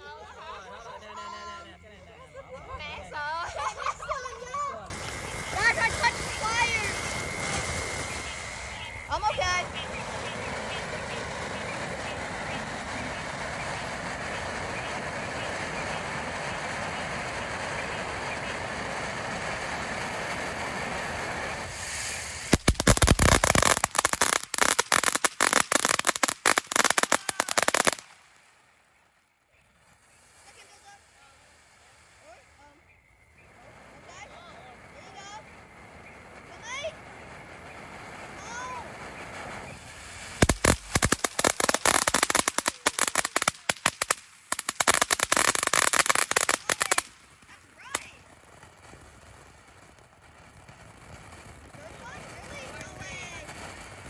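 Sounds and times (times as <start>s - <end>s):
steady hissing noise: 2.8s - 54.0s
firecrackers cracking: 4.9s - 31.0s, 33.3s - 54.0s.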